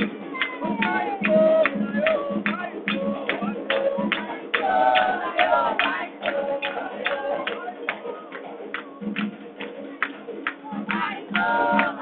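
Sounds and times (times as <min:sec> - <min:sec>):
voices singing: 0:00.0 - 0:09.2, 0:10.5 - 0:12.0
sharp percussive strikes: 0:00.0 - 0:12.0.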